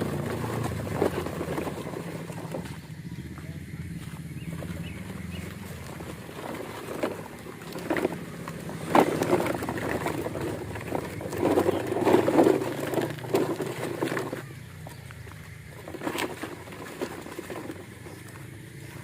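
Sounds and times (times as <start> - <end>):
toy trucks clattering and scraping: 0.0 - 19.0.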